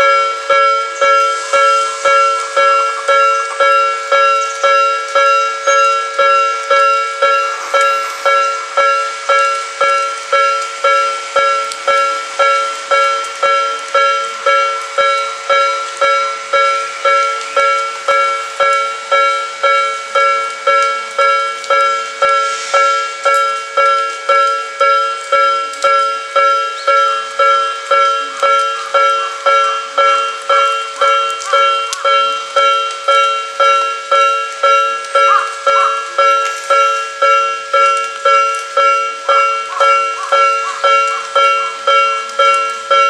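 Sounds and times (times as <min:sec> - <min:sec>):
level-crossing warning bell ringing: 0:00.0 - 0:43.0.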